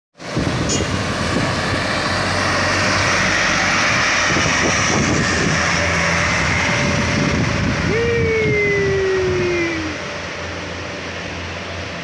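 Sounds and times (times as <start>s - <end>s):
diesel trucks passing under load: 0.2s - 12.0s.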